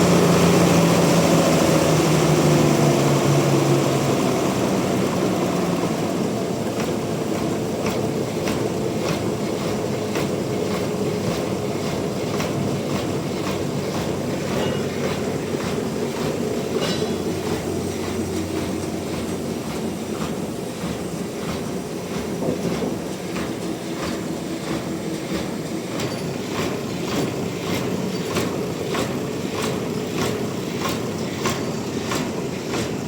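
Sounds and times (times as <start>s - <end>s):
sawmill machinery running: 0.0s - 33.0s.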